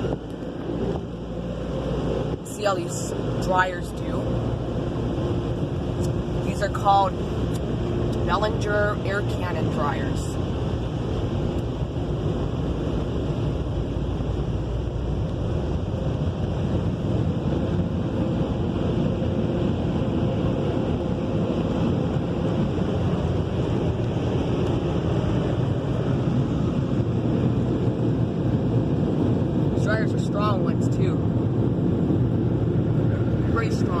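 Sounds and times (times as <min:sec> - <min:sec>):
car wash dryers blowing air: 0:00.0 - 0:34.0.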